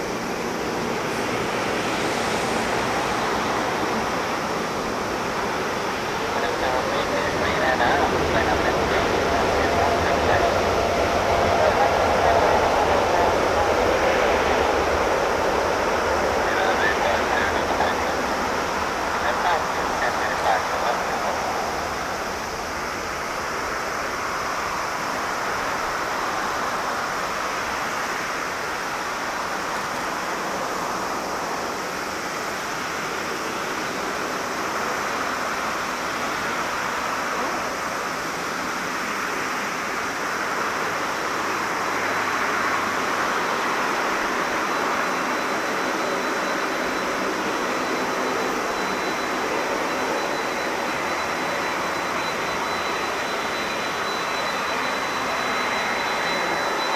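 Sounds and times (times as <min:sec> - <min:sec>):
distant jet engines roaring: 0:00.0 - 0:56.9.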